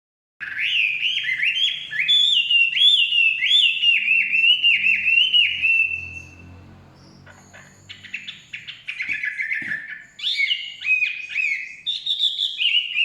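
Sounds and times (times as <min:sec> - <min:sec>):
bird whistling song: 0:00.4 - 0:13.0.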